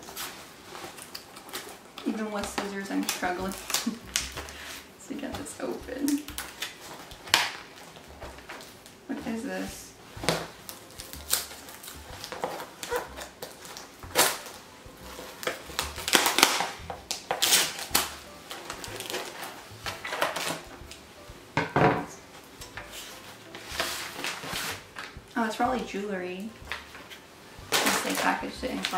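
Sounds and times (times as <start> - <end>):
cardboard scraping and crackling: 0.0 - 21.0, 22.4 - 25.2, 26.6 - 28.9.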